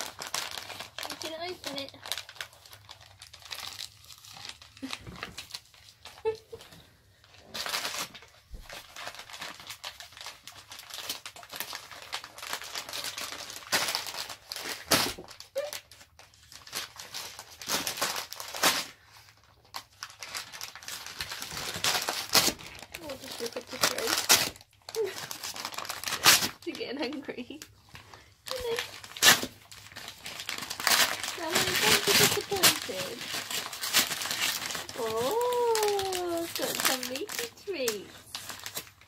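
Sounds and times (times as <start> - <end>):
wrapping paper crinkling and tearing: 0.0 - 39.0.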